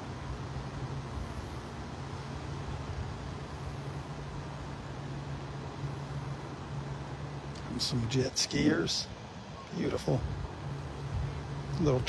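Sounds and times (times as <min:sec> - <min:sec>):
jet ski engines droning: 0:00.0 - 0:12.0.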